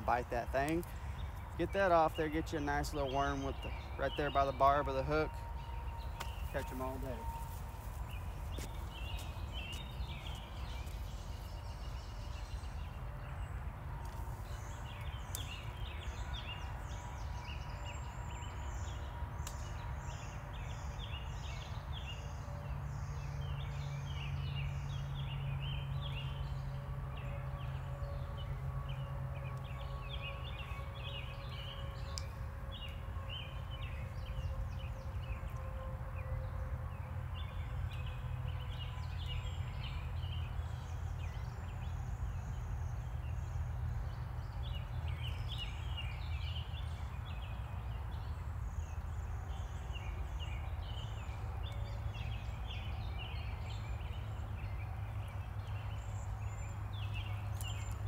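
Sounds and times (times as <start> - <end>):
birds chirping and singing: 0.0 - 58.0
low hum: 0.0 - 58.0.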